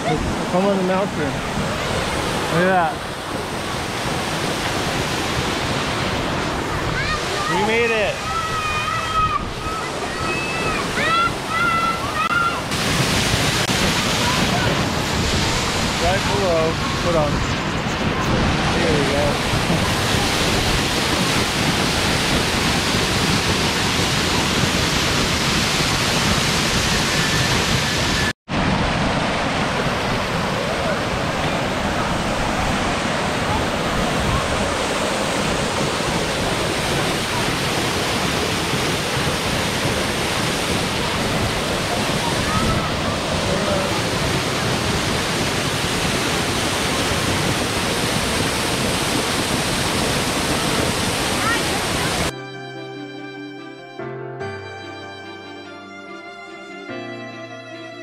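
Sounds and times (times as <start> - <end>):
waterfall rushing and splashing: 0.0 - 52.3.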